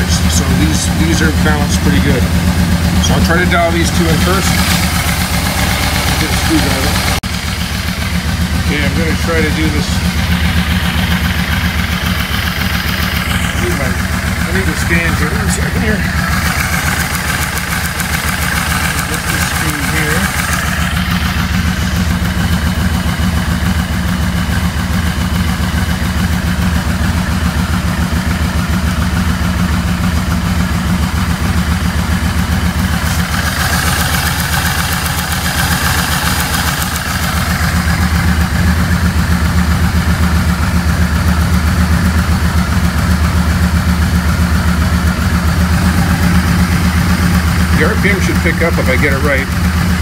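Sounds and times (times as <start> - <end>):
motorcycle engine idling: 0.0 - 50.0.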